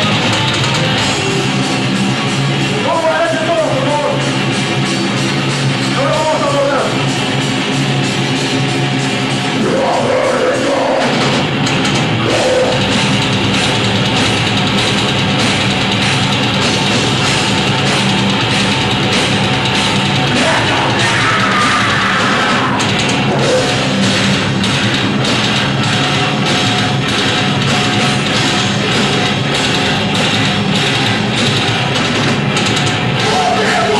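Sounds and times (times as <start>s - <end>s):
live band playing heavy rock: 0.0s - 33.9s.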